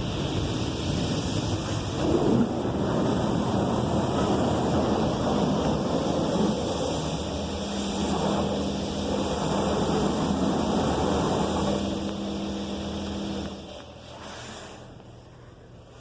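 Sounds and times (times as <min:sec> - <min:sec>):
high-pressure water spraying car: 0:00.0 - 0:14.8
low machine hum: 0:00.0 - 0:16.0.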